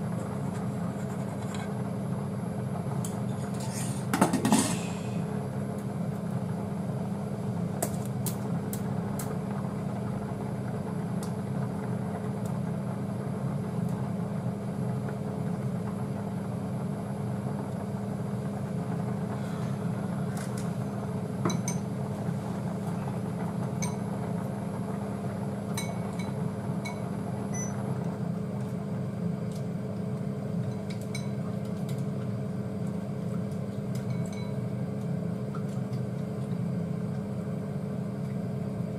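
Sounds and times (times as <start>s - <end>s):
kitchen appliance humming: 0.0s - 38.9s.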